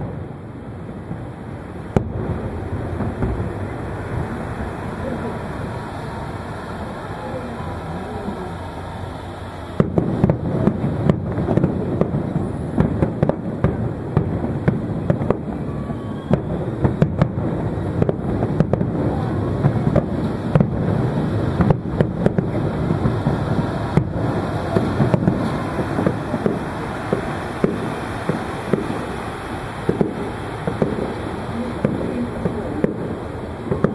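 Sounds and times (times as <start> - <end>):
fireworks bursting: 0.0 - 33.9.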